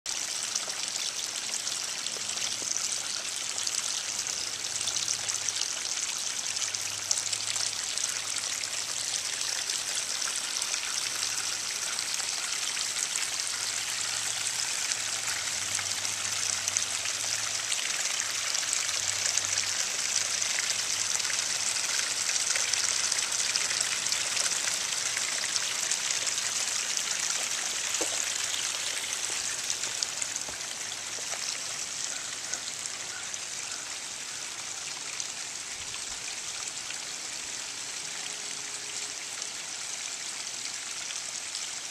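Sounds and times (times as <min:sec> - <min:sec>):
water trickling over stones: 0:00.1 - 0:41.9.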